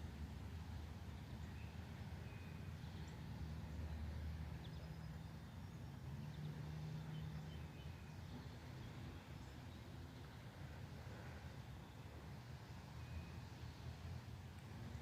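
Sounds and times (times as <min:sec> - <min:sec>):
songbird chirps: 0:00.3 - 0:15.0.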